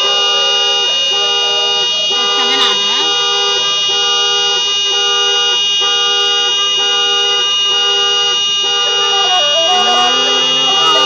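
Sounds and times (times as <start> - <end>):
car horns blaring: 0.0 - 11.0.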